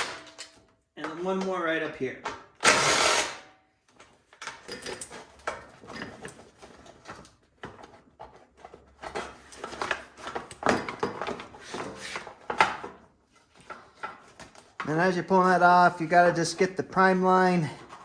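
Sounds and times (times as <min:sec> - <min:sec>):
plastic and tools knocking and rattling: 0:00.0 - 0:15.4, 0:17.7 - 0:18.0.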